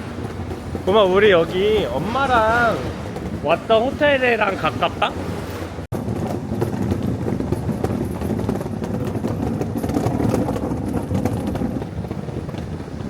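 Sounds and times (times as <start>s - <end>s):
passing cars on city street: 0.0s - 13.0s.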